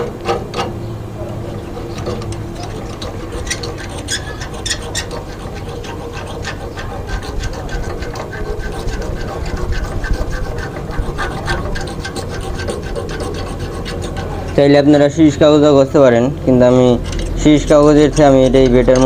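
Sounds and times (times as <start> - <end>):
saw blade scraping metal pipe: 0.0 - 0.8, 1.6 - 15.4, 16.8 - 19.0.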